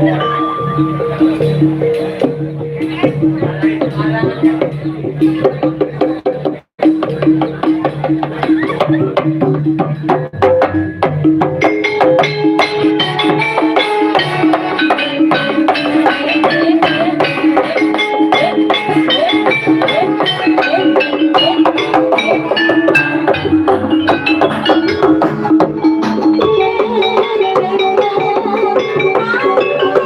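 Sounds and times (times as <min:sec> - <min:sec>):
drum strokes: 0:00.0 - 0:30.0
struck metallophones: 0:00.0 - 0:30.0.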